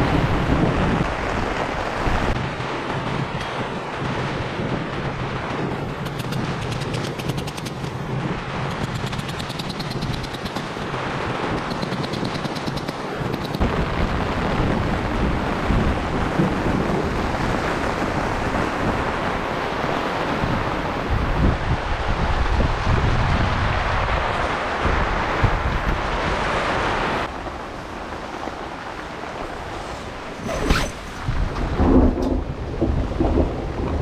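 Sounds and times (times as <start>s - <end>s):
heavy rain beating down: 0.0s - 34.0s
wind buffeting microphone: 0.0s - 34.0s.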